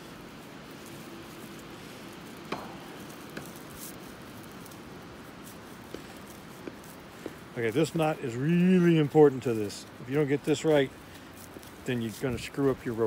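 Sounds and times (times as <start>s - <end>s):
rope clicks: 0.0s - 13.0s
rope rustling: 0.0s - 13.0s
steady low hiss: 0.0s - 13.0s.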